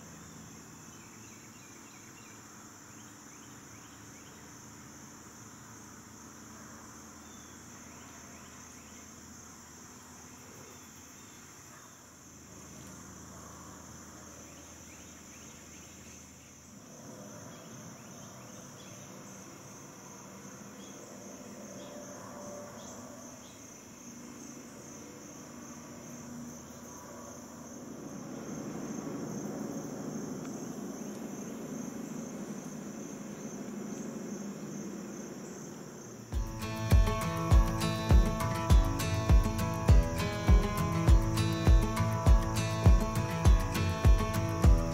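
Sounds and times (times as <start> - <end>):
insect chorus trilling: 0.0 - 44.9.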